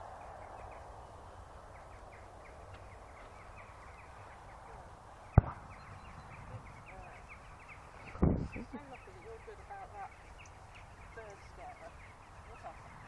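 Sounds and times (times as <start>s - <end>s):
faint bird chirps: 0.1s - 13.0s.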